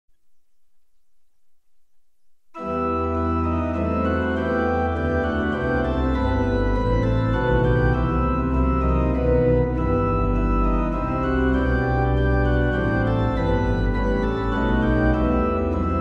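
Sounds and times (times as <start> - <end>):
church organ playing hymn chords: 2.6 - 16.0.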